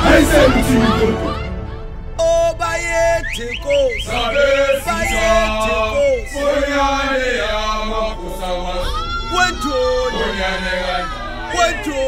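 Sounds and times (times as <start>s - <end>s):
group of voices chanting: 0.0s - 1.9s, 4.0s - 12.0s.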